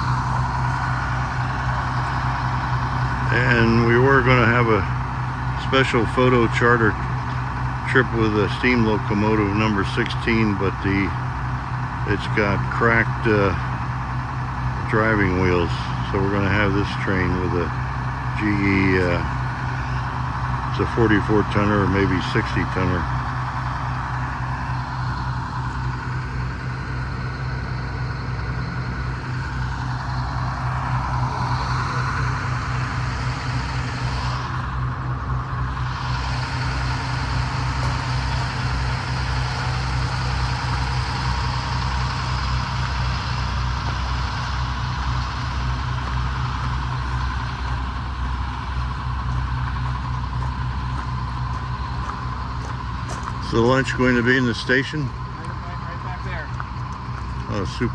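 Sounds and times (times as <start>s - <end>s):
constant hiss and hum: 0.0s - 57.9s
diesel locomotive idling: 0.0s - 57.9s.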